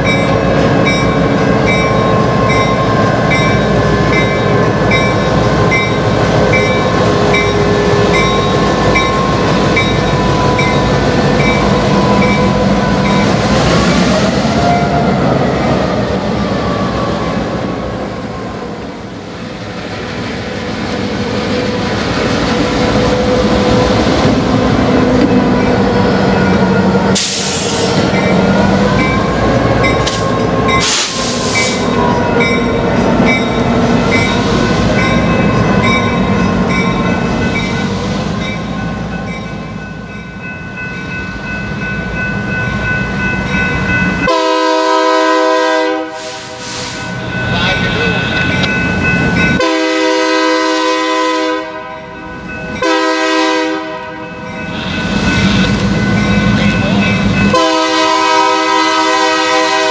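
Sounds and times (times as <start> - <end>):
diesel locomotive engines rumbling: 0.0 - 59.9.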